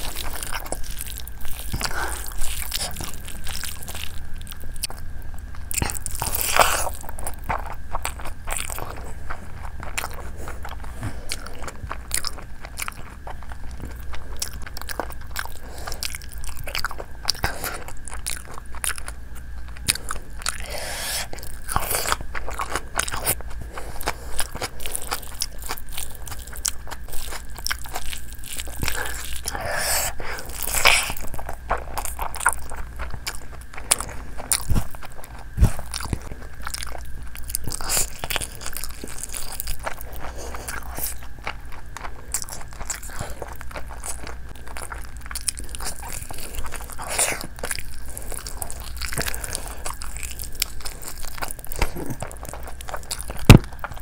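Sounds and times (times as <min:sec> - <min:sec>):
chewing and biting food: 0:00.0 - 0:54.0.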